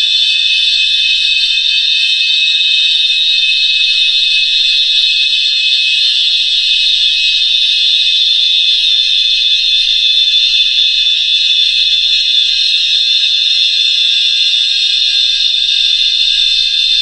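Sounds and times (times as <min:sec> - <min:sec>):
shrill synthesized whine: 0:00.0 - 0:17.0.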